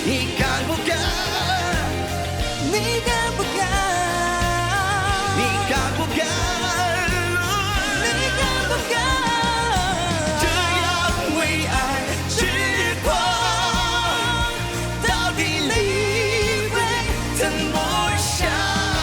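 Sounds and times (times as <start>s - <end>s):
pop ballad with band: 0.0s - 19.0s.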